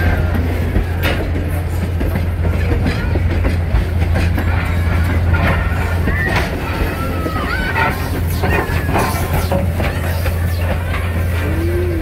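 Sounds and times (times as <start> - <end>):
low train rumble: 0.0 - 12.0
train wheels clicking over rail joints: 0.0 - 12.0.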